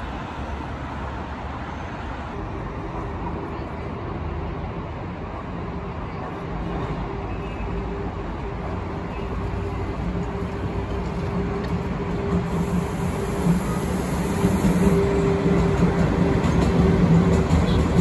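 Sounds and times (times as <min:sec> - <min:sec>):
train rumbling: 0:00.0 - 0:18.0
train mechanical hum: 0:02.0 - 0:18.0.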